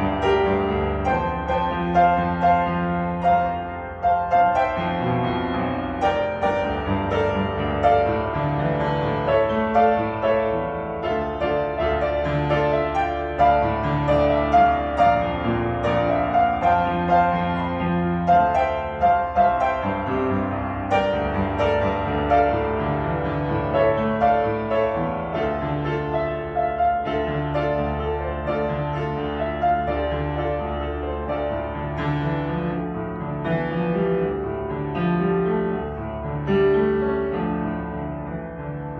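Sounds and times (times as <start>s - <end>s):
solo piano: 0.0s - 38.9s.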